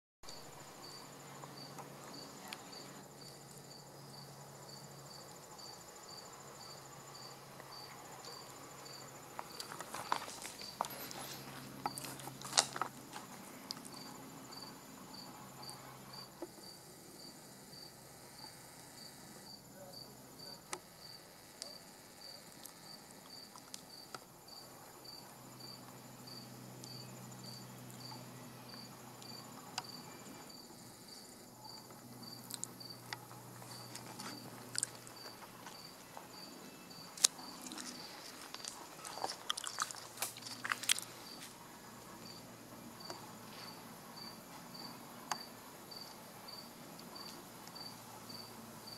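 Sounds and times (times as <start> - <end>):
insect chirping: 0.3 - 48.9.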